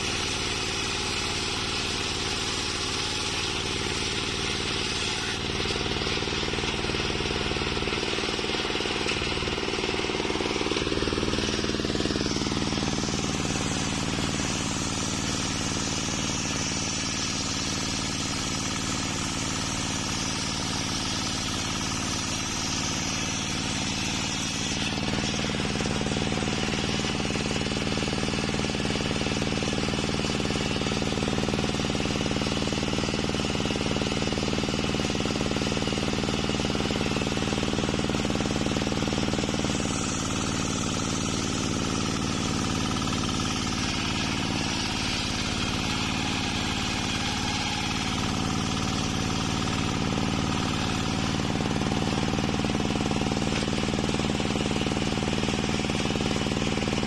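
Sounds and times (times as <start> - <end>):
circular saw cutting wood: 0.0 - 57.0
engine running under load: 0.0 - 57.0.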